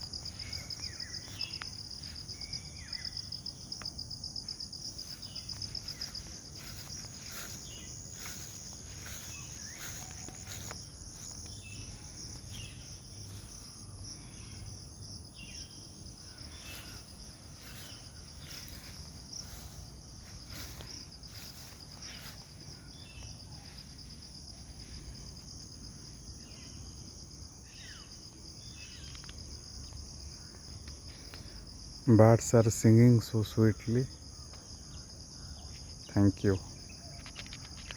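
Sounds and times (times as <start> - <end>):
insects trilling: 0.0 - 37.9.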